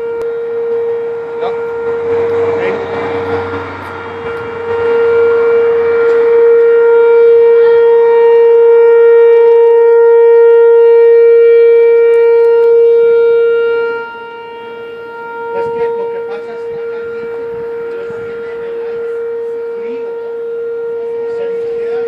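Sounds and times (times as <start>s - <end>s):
warning siren steady tone: 0.0s - 22.0s.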